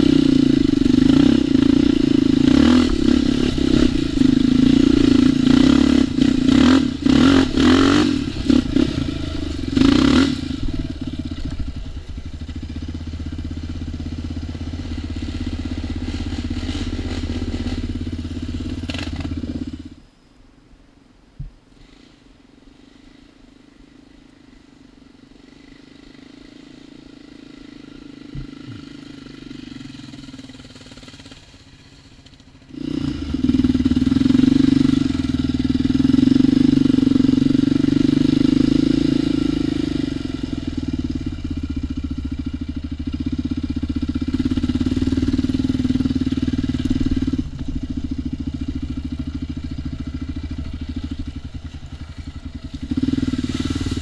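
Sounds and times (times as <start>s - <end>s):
atv engine running: 0.0s - 20.0s, 24.2s - 54.0s.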